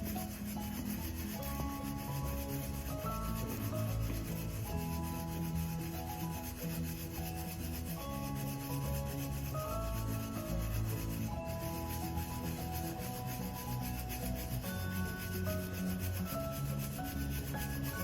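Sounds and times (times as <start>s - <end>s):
scraping rasping noise: 0.0s - 18.0s
slow music of held notes: 0.0s - 18.0s.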